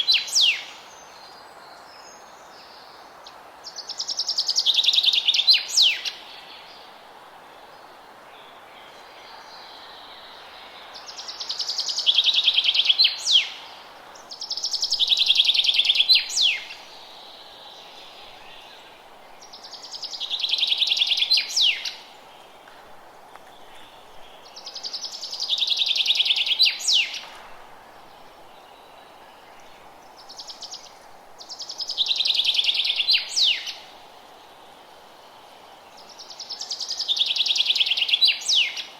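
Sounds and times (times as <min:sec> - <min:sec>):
songbird trilling song: 0:00.0 - 0:02.8, 0:03.7 - 0:06.8, 0:08.4 - 0:22.5, 0:23.3 - 0:34.0, 0:35.9 - 0:38.9
steady hiss: 0:00.0 - 0:38.9.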